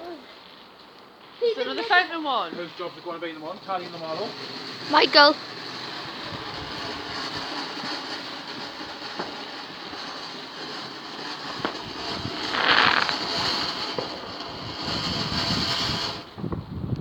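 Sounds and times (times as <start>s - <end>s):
firework fountain hissing: 0.0s - 16.8s
firework crackles: 0.0s - 17.0s.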